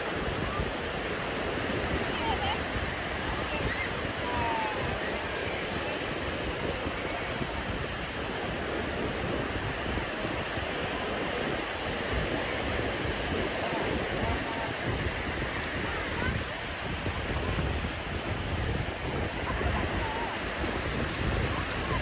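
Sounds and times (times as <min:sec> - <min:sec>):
surf breaking on beach: 0:00.0 - 0:22.0.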